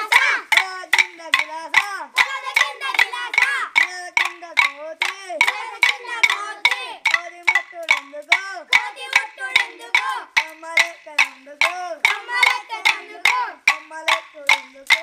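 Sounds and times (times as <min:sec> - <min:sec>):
boys singing in chorus: 0:00.0 - 0:15.0
wooden sticks clacking: 0:00.0 - 0:15.0.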